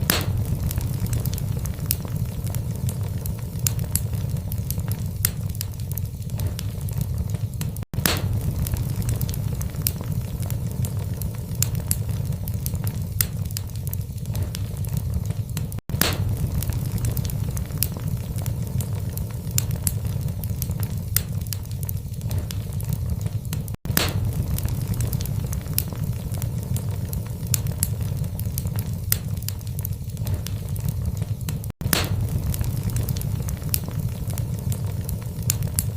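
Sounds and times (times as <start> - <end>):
logs crackling and popping: 0.0 - 35.9
wood fire rumbling: 0.0 - 35.9.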